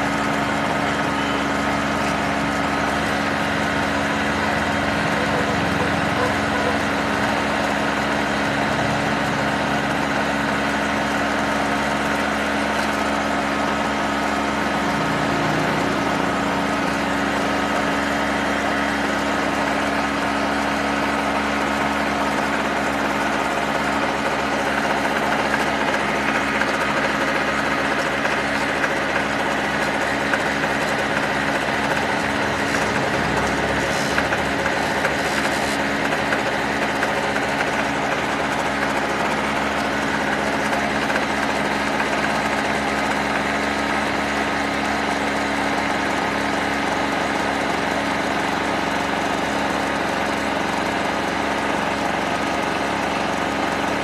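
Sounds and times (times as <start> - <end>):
generator engine idling: 0.0 - 54.0.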